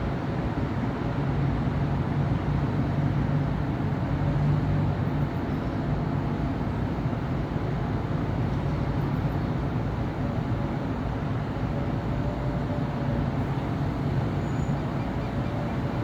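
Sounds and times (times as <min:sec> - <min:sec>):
city street traffic hum: 0:00.0 - 0:16.0.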